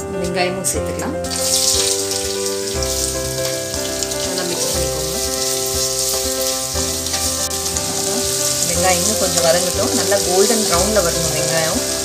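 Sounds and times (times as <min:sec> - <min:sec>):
background music: 0:00.0 - 0:12.0
onion sizzling in oil: 0:01.2 - 0:12.0.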